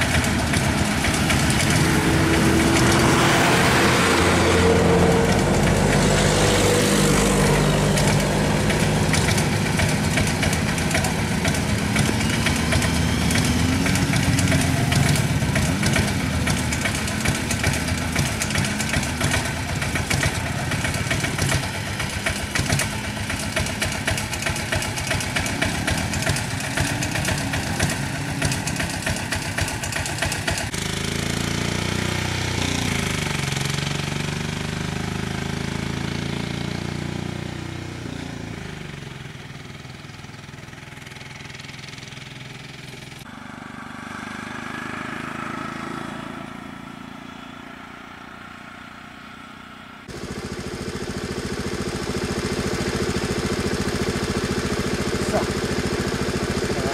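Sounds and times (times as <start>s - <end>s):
engine rising and falling in pitch: 0.0s - 56.9s
engines idling: 0.0s - 56.9s.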